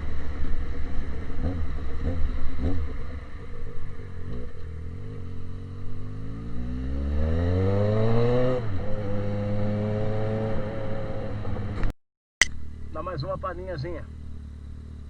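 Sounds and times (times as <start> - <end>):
motorcycle engine revving: 0.0 - 11.9, 12.6 - 15.0.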